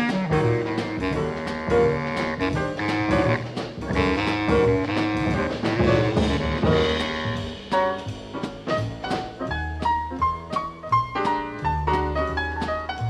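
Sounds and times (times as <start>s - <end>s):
jazz combo playing: 0.0s - 13.0s.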